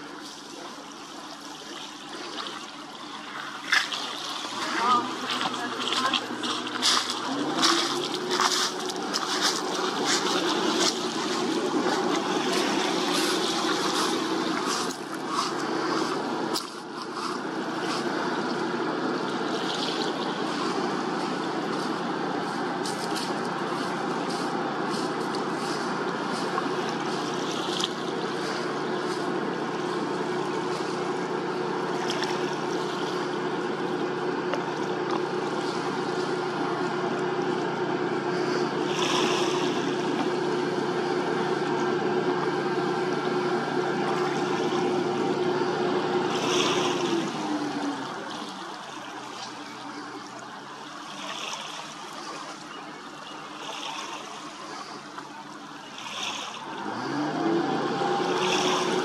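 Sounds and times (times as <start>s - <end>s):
tugboat engine running: 0.0s - 59.0s.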